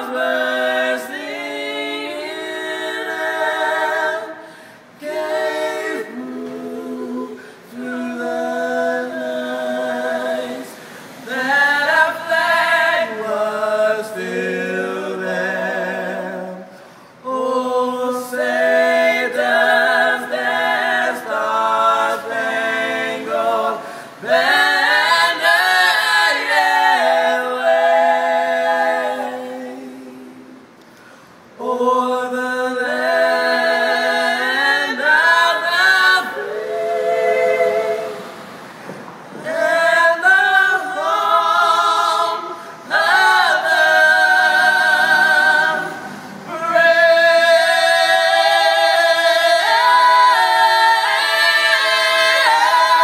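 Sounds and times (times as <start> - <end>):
a cappella group singing: 0.0 - 53.0.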